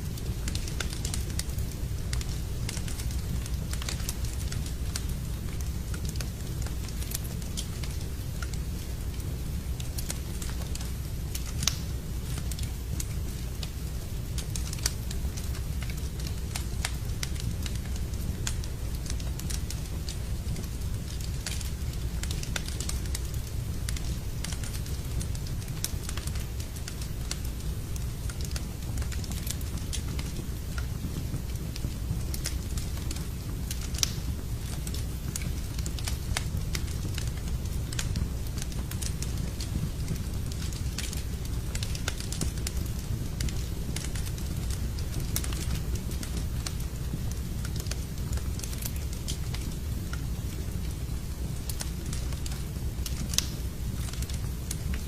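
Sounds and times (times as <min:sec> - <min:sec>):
wood fire crackling: 0:00.0 - 0:55.0
fire pops and snaps: 0:00.1 - 0:55.0.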